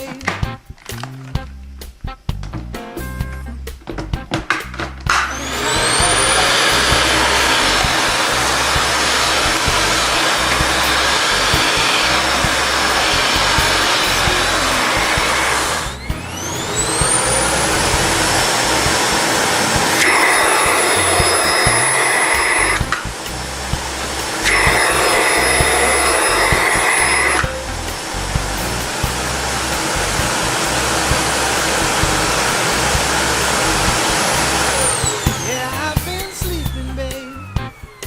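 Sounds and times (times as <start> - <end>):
vacuum cleaner motor whining: 5.1 - 38.0.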